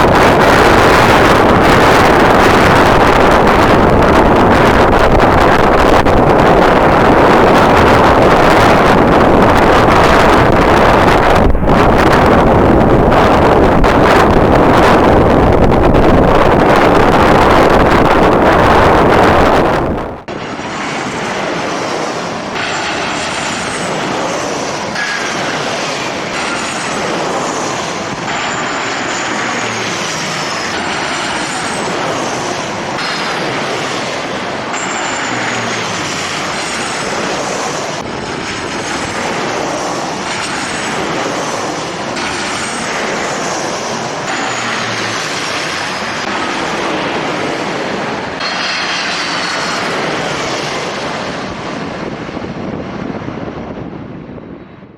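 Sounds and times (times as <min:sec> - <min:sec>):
jet engines roaring and whining: 0:00.0 - 0:54.9
wind buffeting microphone: 0:00.0 - 0:54.9.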